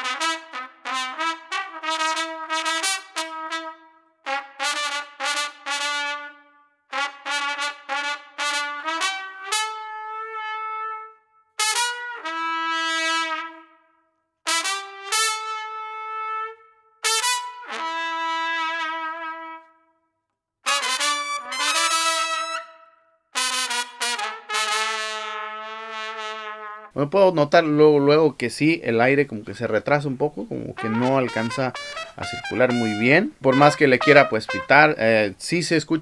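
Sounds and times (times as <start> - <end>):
plastic trumpet playing: 0.0 - 13.8, 14.5 - 19.9, 20.6 - 27.0, 30.6 - 35.1.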